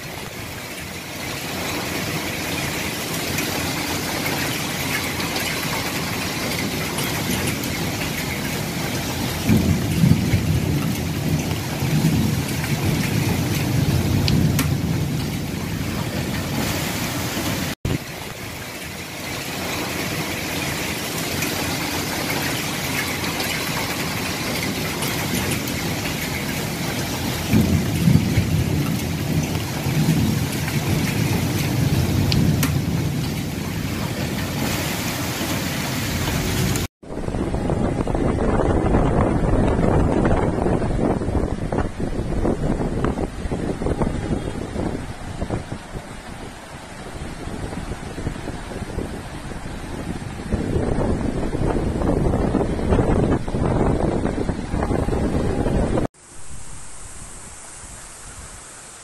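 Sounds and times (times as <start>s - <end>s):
floodwater rushing down street: 0.0s - 59.0s.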